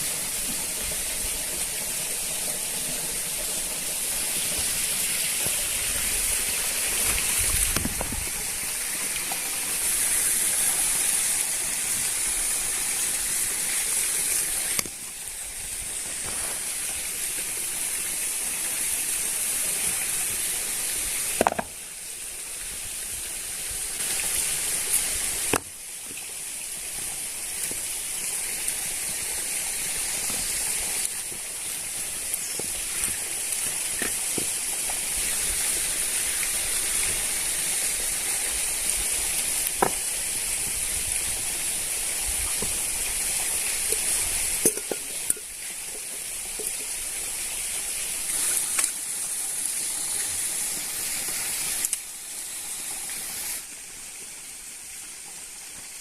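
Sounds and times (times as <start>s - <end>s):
water hissing: 0.0s - 56.0s.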